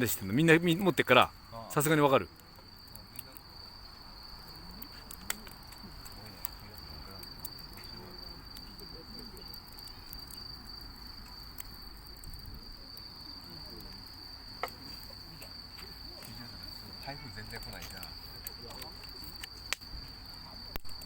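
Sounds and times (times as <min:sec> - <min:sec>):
burning wood crackling: 0:00.0 - 0:21.0
insects trilling: 0:00.0 - 0:21.0.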